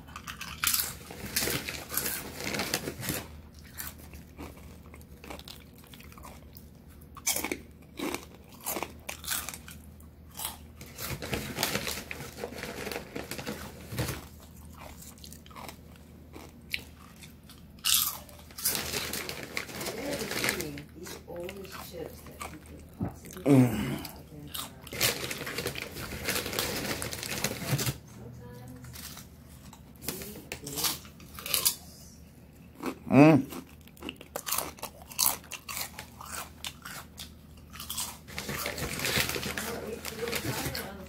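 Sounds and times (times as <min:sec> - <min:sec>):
person chewing crunchy food: 0:00.0 - 0:19.8, 0:21.0 - 0:27.3, 0:30.7 - 0:31.9, 0:32.5 - 0:39.2.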